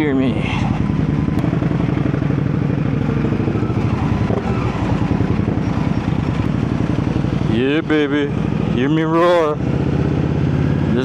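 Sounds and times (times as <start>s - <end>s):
motorcycle exhaust roar: 0.0s - 11.0s.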